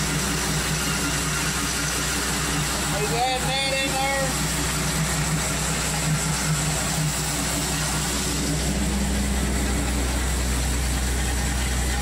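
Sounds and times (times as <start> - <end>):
higher-pitched hum: 0.0 - 12.0
tractor engine humming: 0.0 - 12.0.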